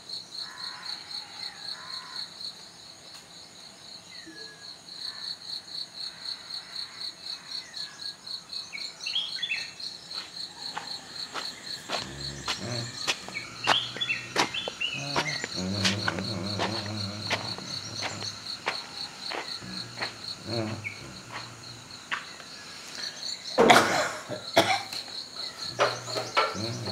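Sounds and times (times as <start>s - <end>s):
insects chirping: 0.0s - 26.9s.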